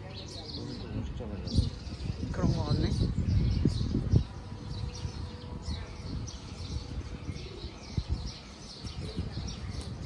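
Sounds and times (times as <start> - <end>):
low rumble of street noise: 0.0 - 10.0
small birds chirping: 0.0 - 10.0.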